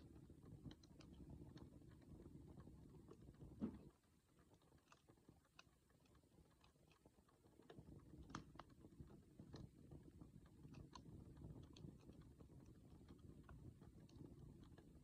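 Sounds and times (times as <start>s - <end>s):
campfire crackling: 0.0s - 15.0s
low rumble of burning fire: 0.0s - 15.0s.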